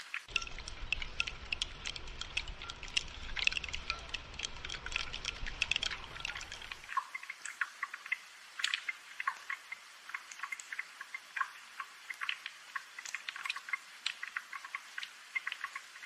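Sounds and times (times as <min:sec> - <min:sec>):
rain drops ticking: 0:00.0 - 0:16.0.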